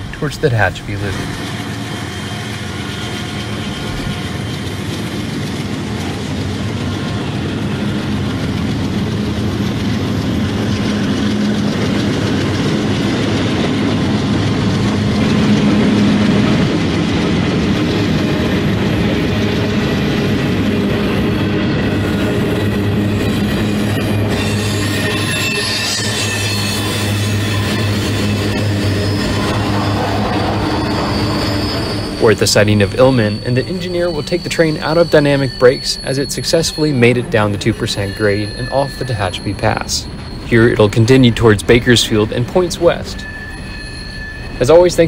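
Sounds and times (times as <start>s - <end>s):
locomotive engine hum: 0.0s - 45.0s
rail and wheel noise: 0.0s - 45.0s.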